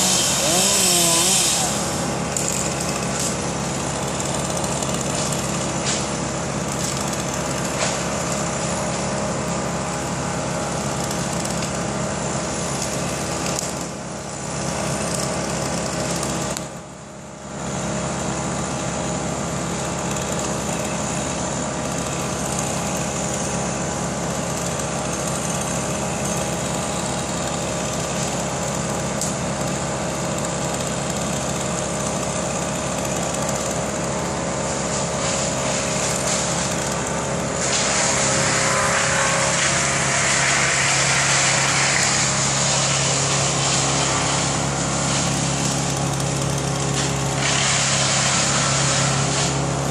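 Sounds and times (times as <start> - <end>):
small petrol engine running: 0.0 - 49.9.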